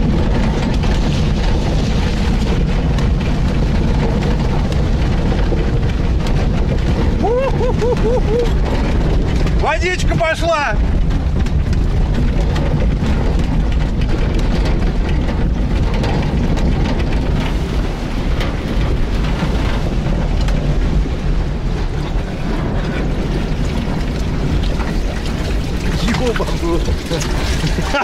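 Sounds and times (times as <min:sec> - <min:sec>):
engine rumbling: 0:00.0 - 0:28.0
water rushing and splashing: 0:00.0 - 0:28.0.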